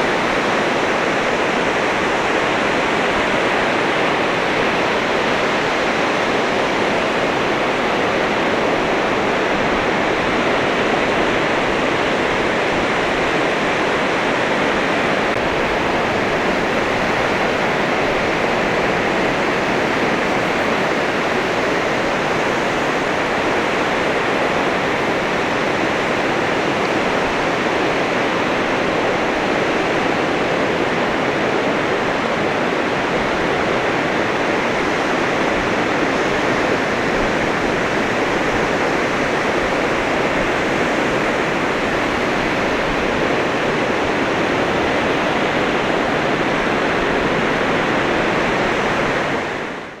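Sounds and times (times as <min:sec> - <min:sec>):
sea surf washing onto beach: 0:00.0 - 0:50.0.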